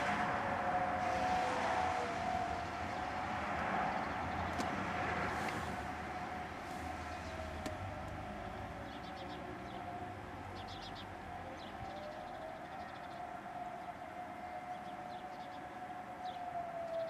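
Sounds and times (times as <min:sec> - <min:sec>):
distant tornado siren wailing: 0:00.0 - 0:17.0.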